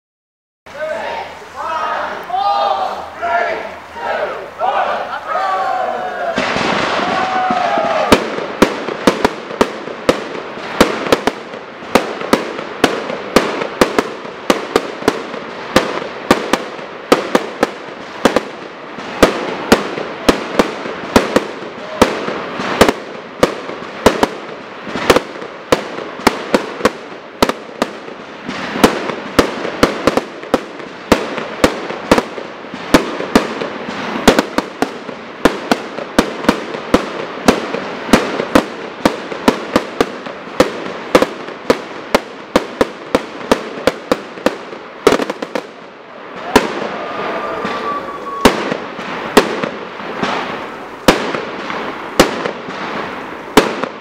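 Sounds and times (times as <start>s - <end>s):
fireworks bangs: 0.7s - 54.0s
fireworks crackling: 0.7s - 54.0s.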